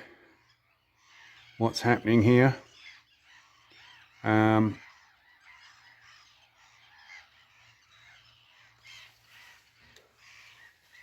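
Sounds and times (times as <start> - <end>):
distant bird calls and song: 0.0 - 11.0.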